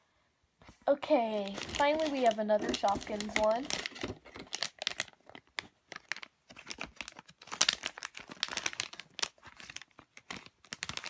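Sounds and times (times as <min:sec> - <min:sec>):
plastic wrapper crinkling: 0:01.3 - 0:11.0.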